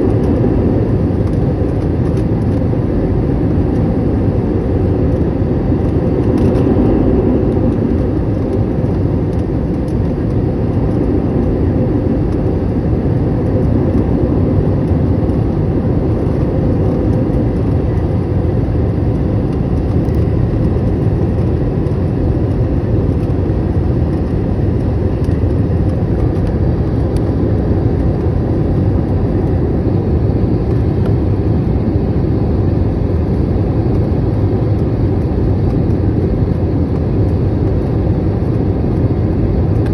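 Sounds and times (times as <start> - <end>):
airliner engines roaring in cabin: 0.0 - 39.9.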